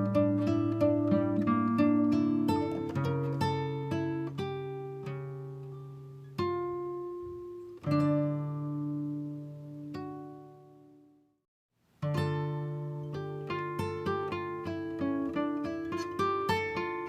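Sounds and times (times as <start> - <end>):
acoustic guitar music: 0.0 - 11.3, 12.0 - 17.0.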